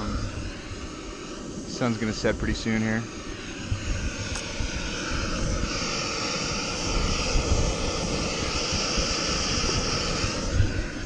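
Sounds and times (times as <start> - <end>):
gas stove burner hissing: 0.0 - 11.0.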